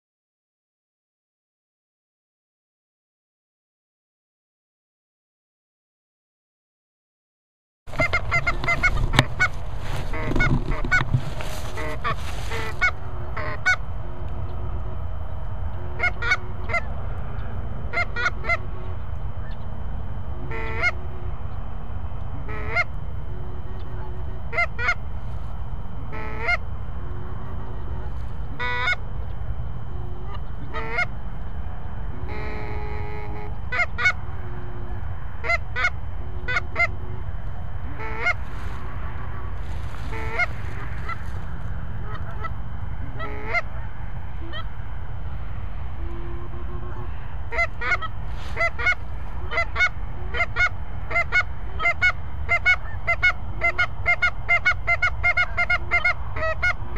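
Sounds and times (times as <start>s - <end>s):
geese honking: 7.9s - 21.5s, 22.4s - 56.9s
steady low rumble: 7.9s - 56.9s.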